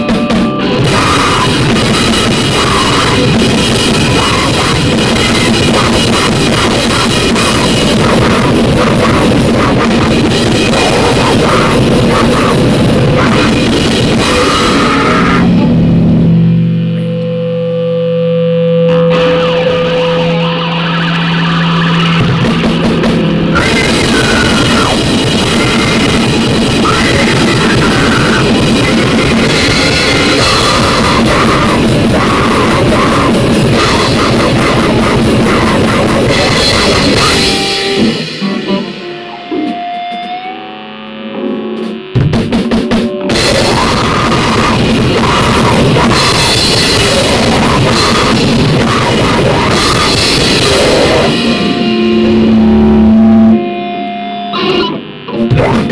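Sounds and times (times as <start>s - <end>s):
drum-like pounding hits: 0.0s - 16.3s, 21.9s - 40.4s, 41.8s - 53.1s
harsh distorted noise music: 0.0s - 55.9s
held tones and stutters: 0.0s - 55.9s.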